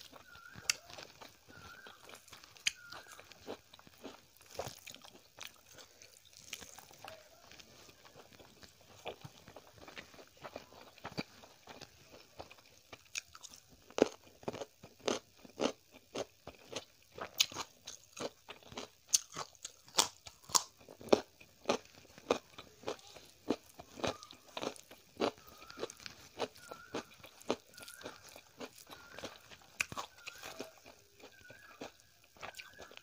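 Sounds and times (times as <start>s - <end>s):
raw carrot crunching: 0.0s - 33.0s.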